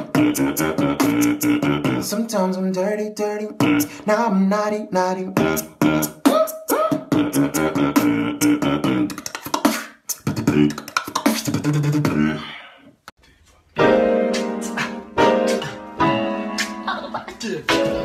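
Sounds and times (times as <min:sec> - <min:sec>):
beatboxing: 0:00.0 - 0:13.0, 0:14.3 - 0:16.0.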